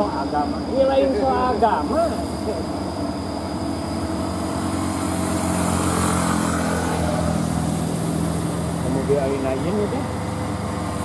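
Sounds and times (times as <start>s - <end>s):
truck diesel engine pulling: 0.0s - 11.0s
van passing by: 0.0s - 11.0s.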